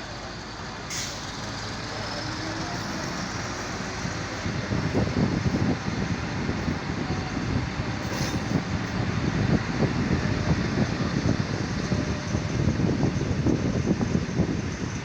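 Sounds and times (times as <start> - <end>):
diesel railcar engine running: 0.0 - 15.0.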